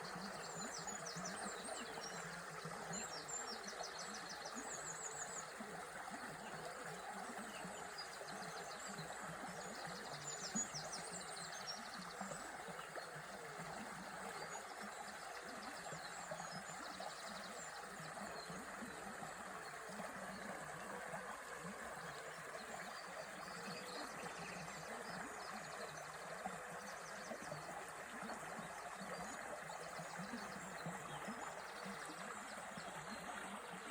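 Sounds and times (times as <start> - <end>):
river water running: 0.0 - 33.9.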